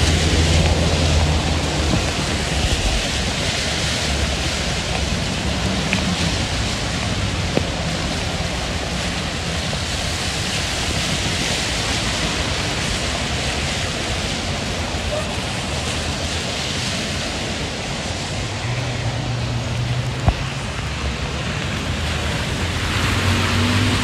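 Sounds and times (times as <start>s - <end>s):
tyres hissing on wet road: 0.0s - 24.0s.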